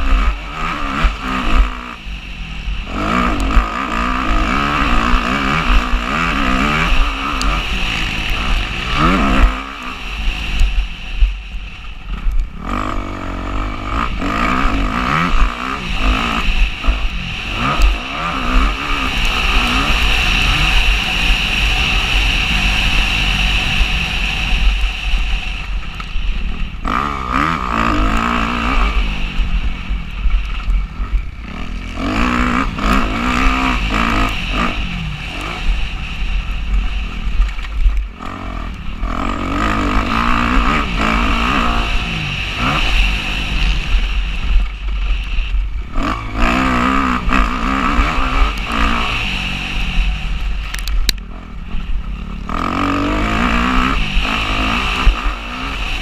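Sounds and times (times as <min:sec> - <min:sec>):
motocross bike engine revving: 0:00.0 - 0:56.0
wind rumble on microphone: 0:00.0 - 0:56.0.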